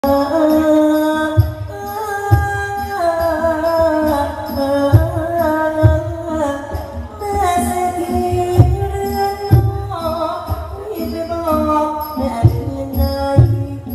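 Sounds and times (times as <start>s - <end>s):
person singing: 0.0s - 13.9s
stage music through loudspeakers: 0.0s - 13.9s.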